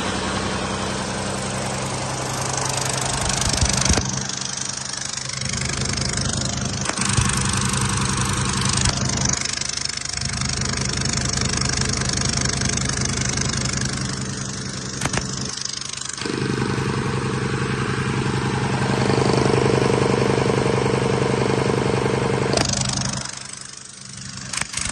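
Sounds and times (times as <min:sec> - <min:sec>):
diesel engine idling: 0:00.0 - 0:24.5.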